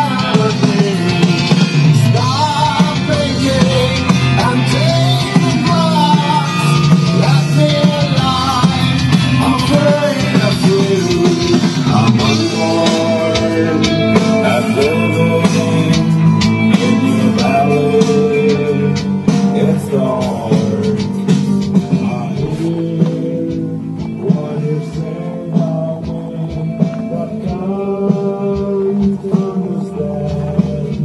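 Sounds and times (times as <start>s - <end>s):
person singing: 0.0s - 31.0s
rock guitar and drums: 0.0s - 31.0s.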